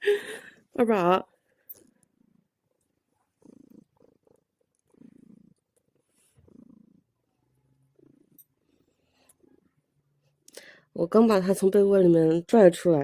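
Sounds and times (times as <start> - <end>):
cat purring softly: 0.6 - 11.2.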